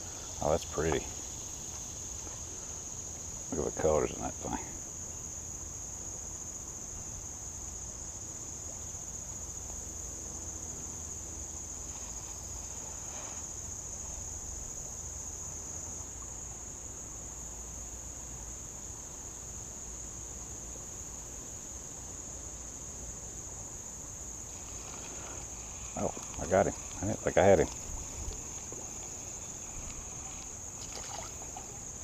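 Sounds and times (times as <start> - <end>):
insects singing: 0.0 - 32.0.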